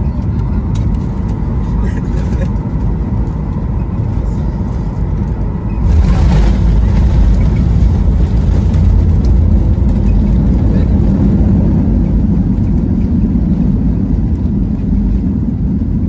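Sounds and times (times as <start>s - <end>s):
engine and airflow rumble: 0.0s - 16.0s.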